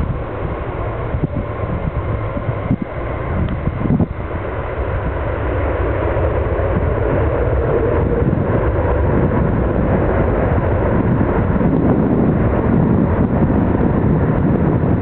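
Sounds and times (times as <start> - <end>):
airliner engines rumbling: 0.0 - 15.0
rushing air: 0.0 - 15.0.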